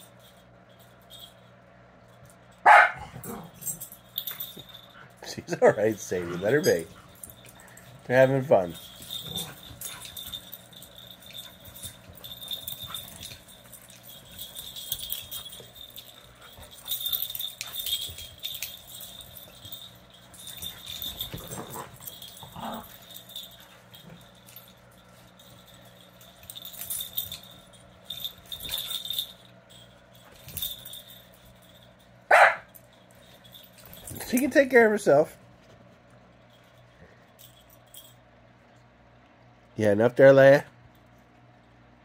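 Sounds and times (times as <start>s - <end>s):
collar tags jingling: 0.0s - 38.8s
puppies scuffling: 3.6s - 38.2s.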